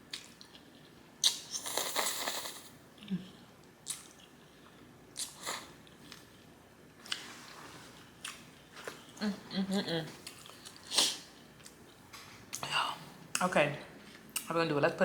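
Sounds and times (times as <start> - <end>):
person eating spaghetti: 0.0 - 12.6.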